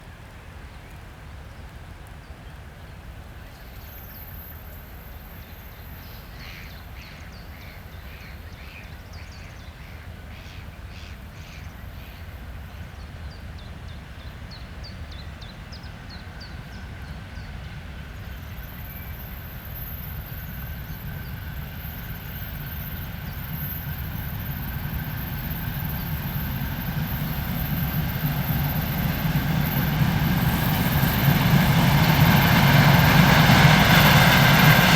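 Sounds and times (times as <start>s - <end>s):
diesel locomotive engine rumble: 3.0s - 34.9s.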